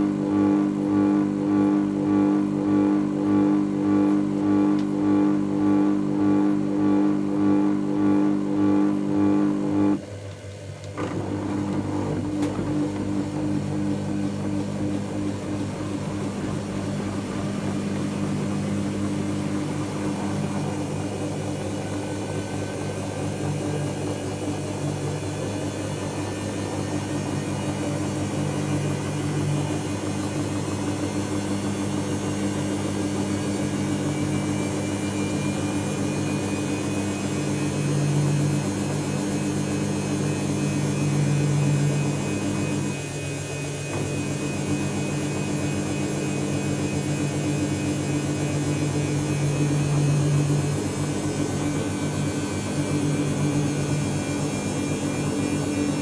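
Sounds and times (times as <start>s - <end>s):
washing machine motor humming: 0.0s - 56.0s.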